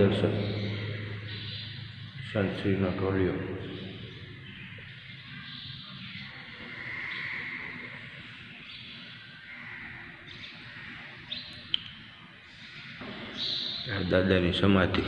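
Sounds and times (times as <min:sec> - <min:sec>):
faint bird chirping: 0:00.0 - 0:14.8.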